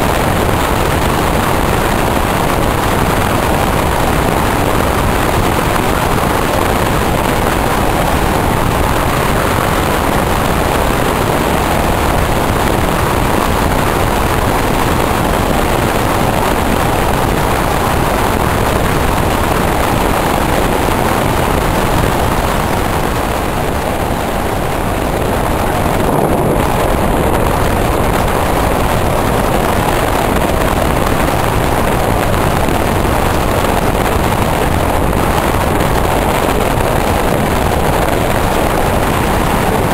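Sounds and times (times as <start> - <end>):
passenger train running at speed: 0.0 - 39.9.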